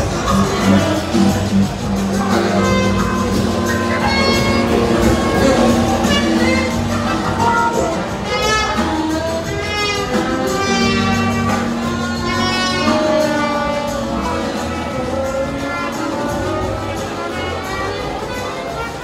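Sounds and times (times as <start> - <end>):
bending melody line: 0.0 - 18.2
drums: 0.0 - 19.0
electric bass: 0.0 - 19.0
live band playing: 0.0 - 19.0.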